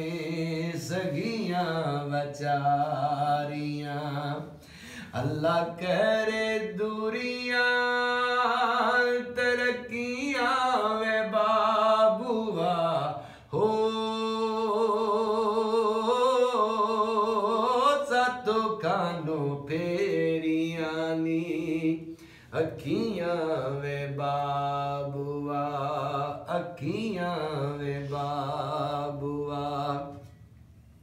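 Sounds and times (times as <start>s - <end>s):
man singing folk song: 0.0s - 30.3s.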